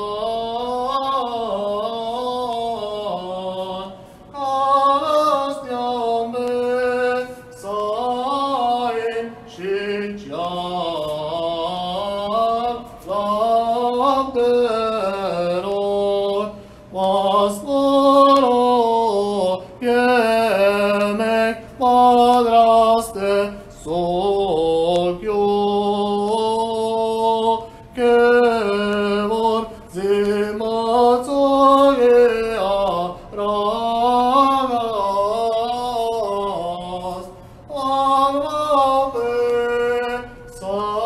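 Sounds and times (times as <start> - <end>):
solo voice chanting a hymn: 0.0 - 41.0.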